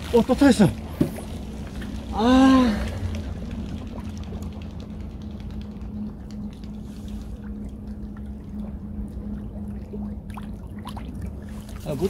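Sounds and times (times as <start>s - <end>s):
constant low hum: 0.0s - 12.0s.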